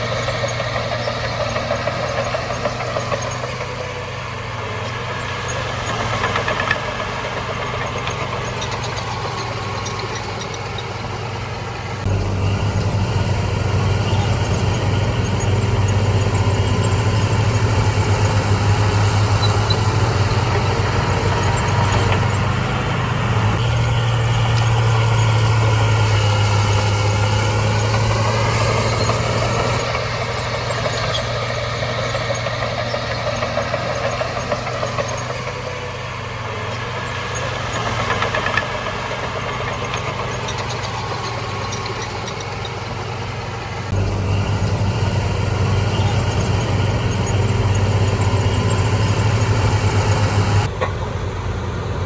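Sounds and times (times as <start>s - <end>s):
heavy diesel engine humming: 0.0s - 52.0s.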